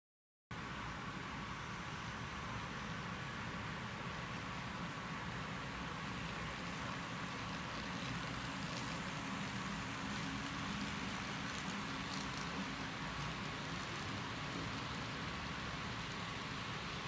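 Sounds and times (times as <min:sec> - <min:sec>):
model train humming and rolling: 0:00.6 - 0:17.0.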